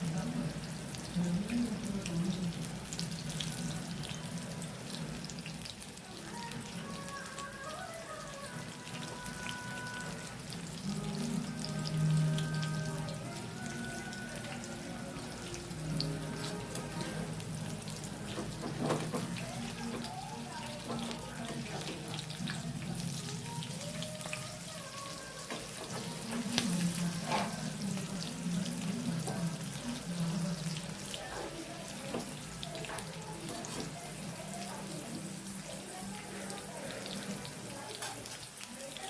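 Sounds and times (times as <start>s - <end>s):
faint background music: 0.0s - 39.0s
food frying in hot oil: 0.0s - 39.0s.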